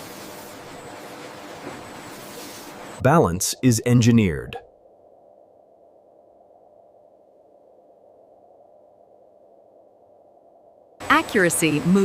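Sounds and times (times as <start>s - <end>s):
faint low hum with tones: 0.0s - 12.0s.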